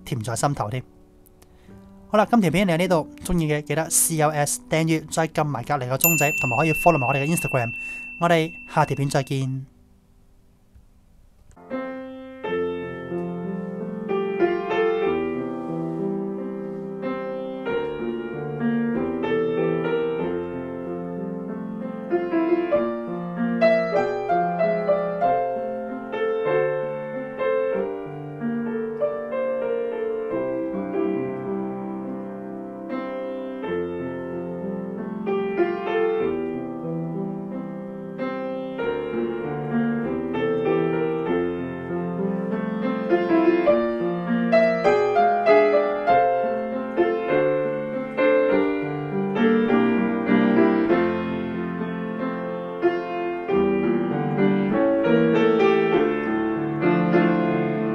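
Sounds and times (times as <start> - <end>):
background piano music: 0.0 - 10.0, 11.6 - 57.9.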